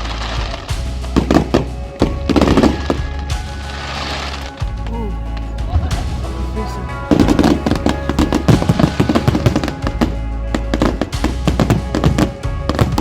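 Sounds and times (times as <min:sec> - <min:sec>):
fireworks crackling bangs: 0:00.0 - 0:13.0
music with steady bass: 0:00.0 - 0:13.0.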